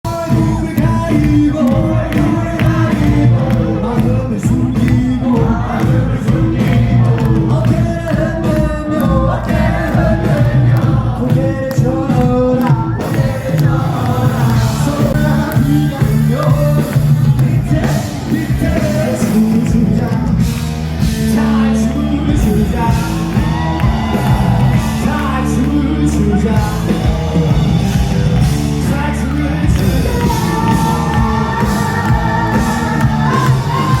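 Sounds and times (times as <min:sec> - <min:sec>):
lead vocal singing: 0:00.0 - 0:34.0
live band playing: 0:00.1 - 0:34.0.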